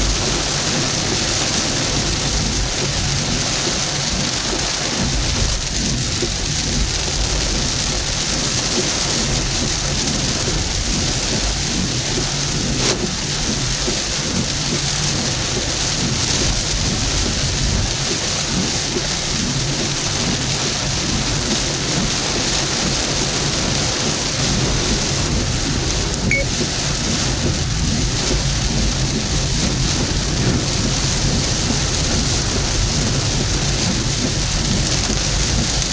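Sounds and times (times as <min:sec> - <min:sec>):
heavy rain on a car: 0:00.0 - 0:35.9.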